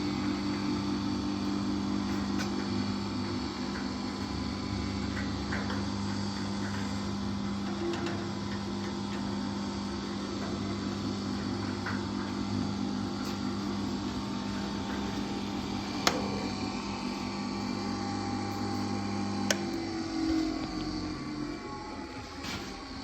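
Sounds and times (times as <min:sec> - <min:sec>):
knife grinder motor humming: 0:00.0 - 0:23.0.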